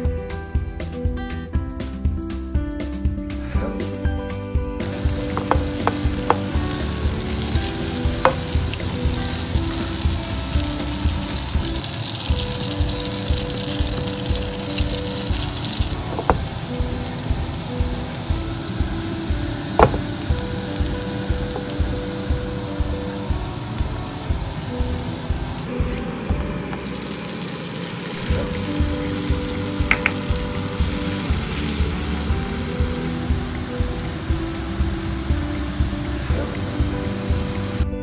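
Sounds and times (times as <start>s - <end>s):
soft background music: 0.0s - 38.0s
garlic sizzling in a pan: 4.8s - 37.8s.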